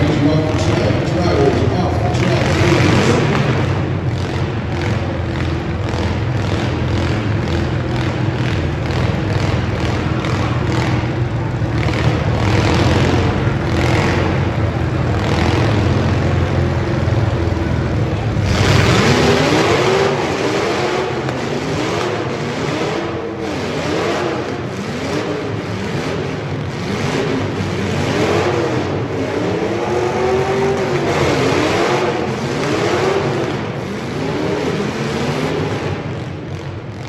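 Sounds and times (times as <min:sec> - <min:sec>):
car engines running loud: 0:00.0 - 0:37.0
engine revving up and down: 0:00.0 - 0:37.0.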